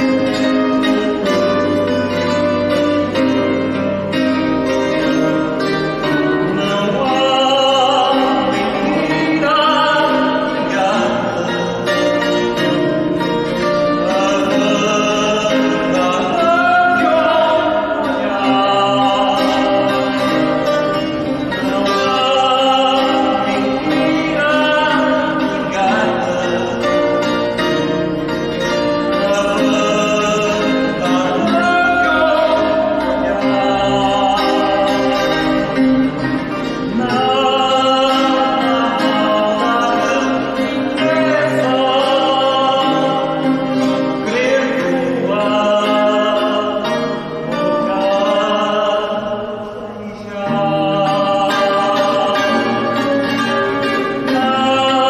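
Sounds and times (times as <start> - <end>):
man singing with vibrato: 0.0 - 55.0
plucked guitar: 0.0 - 55.0.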